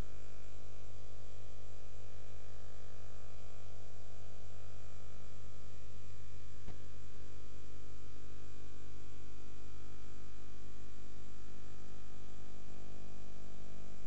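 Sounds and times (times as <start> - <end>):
electrical mains hum and buzz: 0.0 - 14.0.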